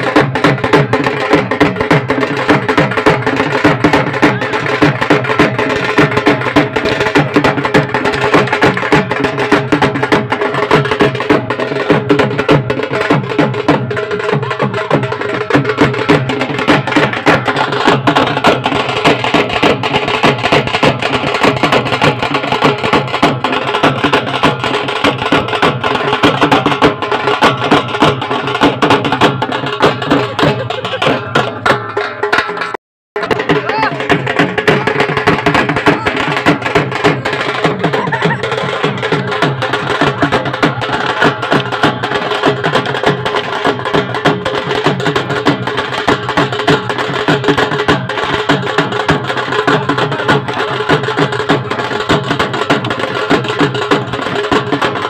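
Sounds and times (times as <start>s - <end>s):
drum beaten fast: 0.0s - 55.0s.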